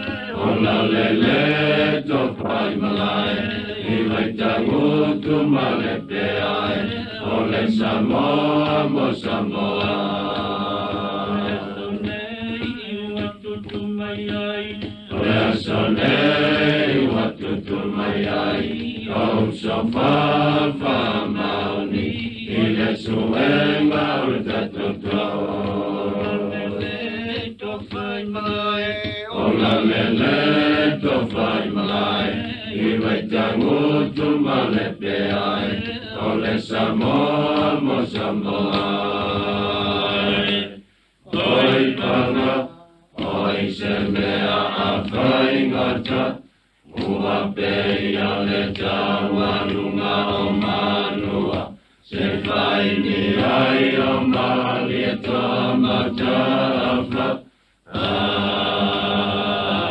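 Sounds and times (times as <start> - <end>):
group of voices singing: 0.0 - 59.9.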